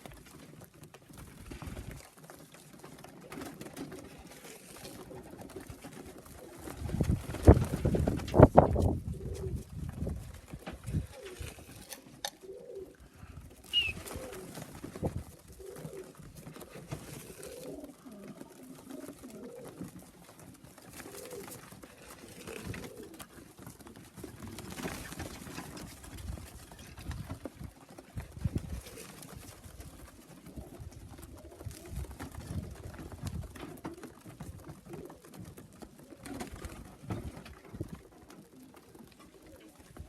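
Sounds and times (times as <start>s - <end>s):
pigeons cooing: 0.0s - 40.0s.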